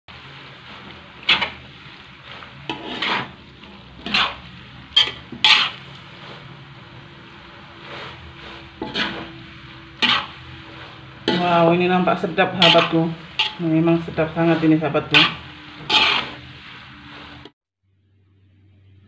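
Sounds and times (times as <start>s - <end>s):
frying sizzle: 0.1s - 17.6s
spatula scraping a wok: 0.1s - 17.6s.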